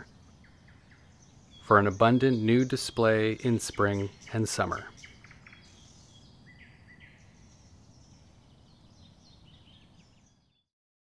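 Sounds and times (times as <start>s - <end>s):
faint bird chirps: 0.0s - 10.7s
low steady background noise: 0.0s - 10.7s.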